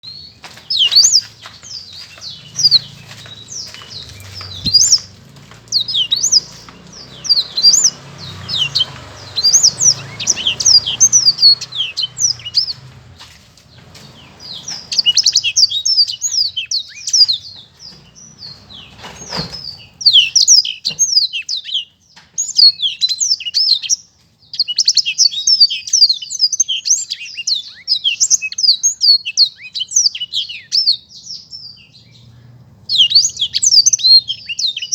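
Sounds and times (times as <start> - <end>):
canary singing fast song: 0.0 - 34.9.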